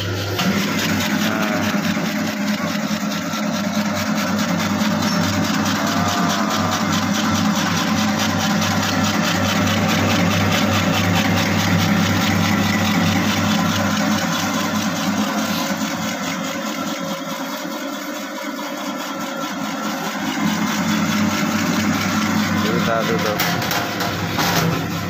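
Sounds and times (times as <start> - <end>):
dough mixer motor humming: 0.0 - 25.0.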